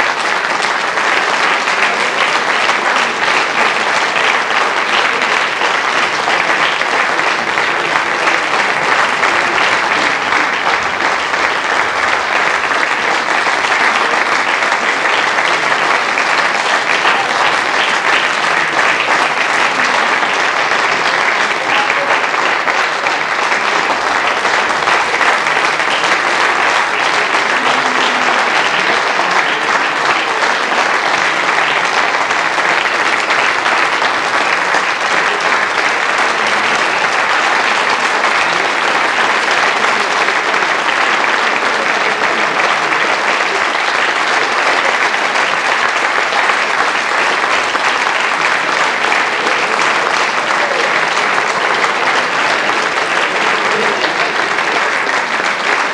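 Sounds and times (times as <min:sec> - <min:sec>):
audience applauding: 0:00.0 - 0:55.9.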